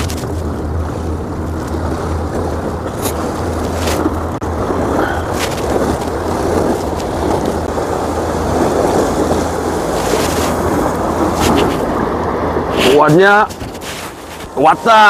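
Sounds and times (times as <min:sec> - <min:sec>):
waves washing against rocks: 0:00.0 - 0:15.0
wind rumble on microphone: 0:00.0 - 0:15.0.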